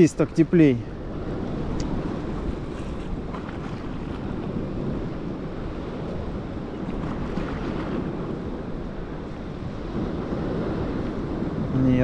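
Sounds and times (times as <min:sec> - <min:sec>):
surf washing onto shore: 0:00.0 - 0:12.0
wind buffeting microphone: 0:00.0 - 0:12.0.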